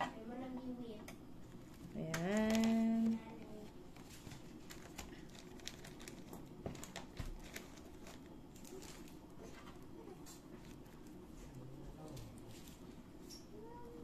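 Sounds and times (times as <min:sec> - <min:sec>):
paper liner crinkling: 0:01.5 - 0:12.9.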